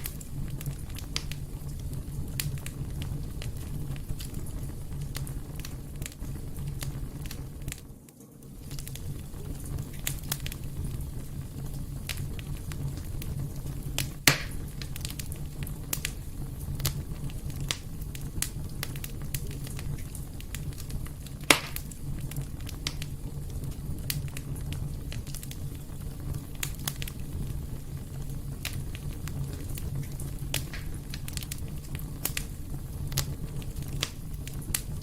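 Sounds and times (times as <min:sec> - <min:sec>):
fire crackling: 0:00.0 - 0:35.0
fire popping: 0:00.0 - 0:35.0.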